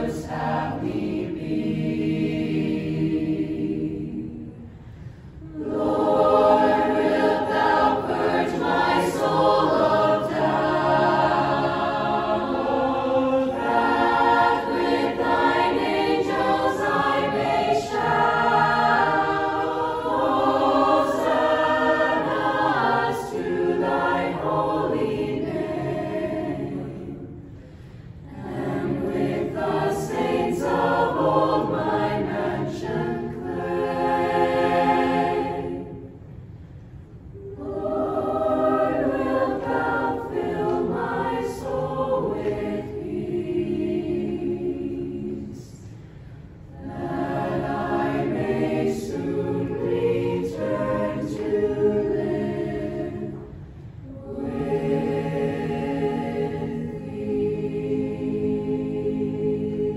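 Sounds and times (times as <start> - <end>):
youth choir singing: 0.0 - 4.7, 5.4 - 27.6, 28.2 - 36.2, 37.3 - 45.9, 46.7 - 59.9.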